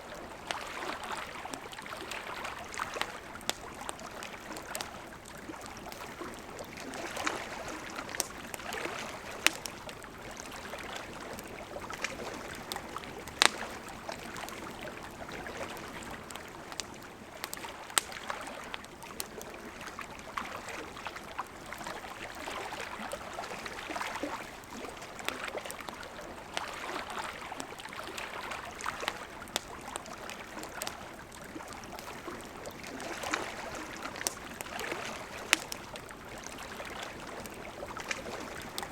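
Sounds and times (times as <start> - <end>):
campfire crackling: 0.0 - 38.9
river flowing: 0.0 - 38.9.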